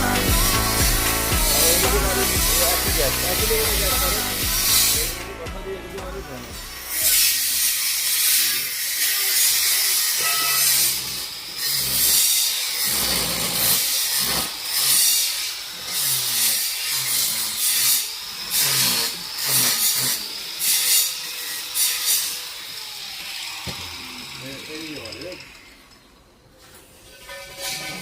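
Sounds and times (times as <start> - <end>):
harsh metal hissing and scraping: 0.0 - 28.0.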